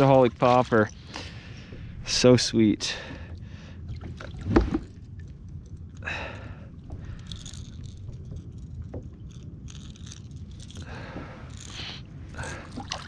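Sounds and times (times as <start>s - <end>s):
water against kayak hull: 0.0s - 2.4s, 3.0s - 6.0s, 6.6s - 13.0s.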